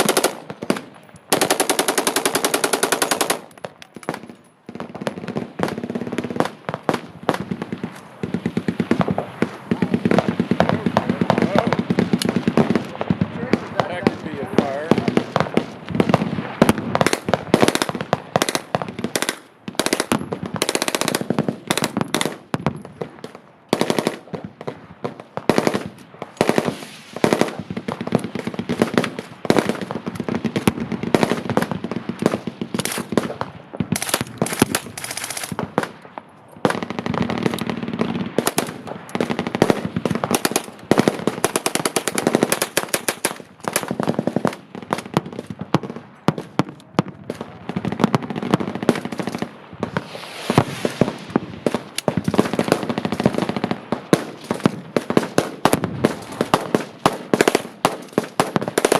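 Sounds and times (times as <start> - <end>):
machine guns firing bursts: 0.0 - 22.4, 23.7 - 24.3, 25.5 - 36.0, 36.7 - 45.5, 50.9 - 58.9.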